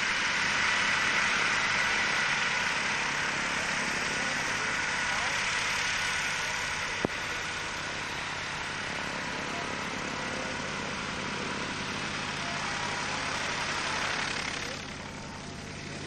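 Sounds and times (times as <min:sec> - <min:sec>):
radial piston engine running: 0:00.0 - 0:16.0.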